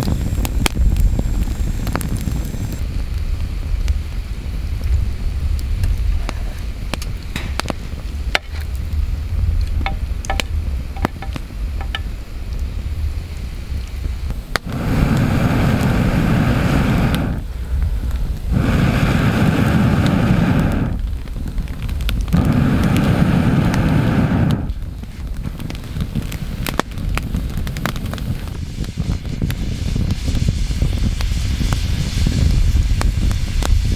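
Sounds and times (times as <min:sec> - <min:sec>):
air rushing through blowing pipe: 0:00.0 - 0:33.9
campfire crackling and popping: 0:00.0 - 0:33.9
steady low rumble: 0:00.0 - 0:33.9.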